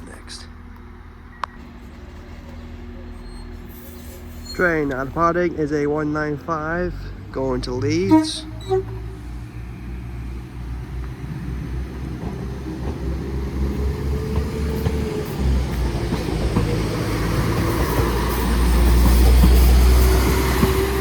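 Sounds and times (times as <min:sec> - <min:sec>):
diesel train engine drone: 0:00.0 - 0:21.0.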